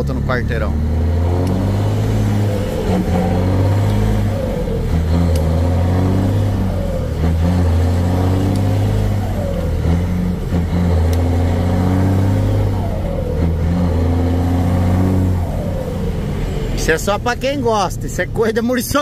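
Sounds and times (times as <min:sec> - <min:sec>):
truck diesel engine revving: 0:00.0 - 0:19.0.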